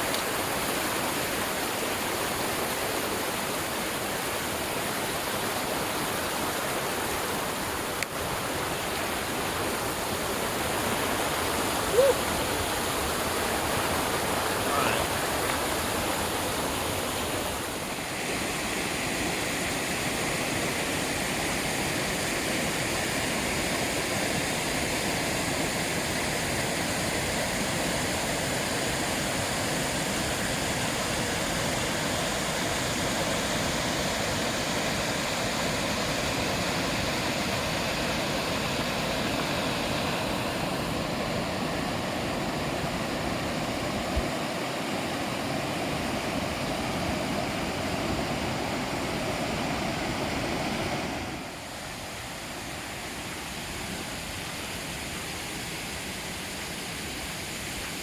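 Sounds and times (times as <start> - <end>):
rushing creek water: 0.0 - 58.0.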